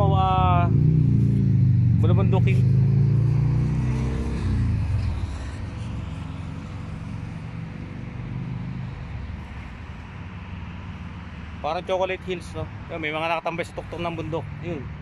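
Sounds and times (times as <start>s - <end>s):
low traffic rumble: 0.0s - 15.0s
vehicle passing: 0.0s - 15.0s.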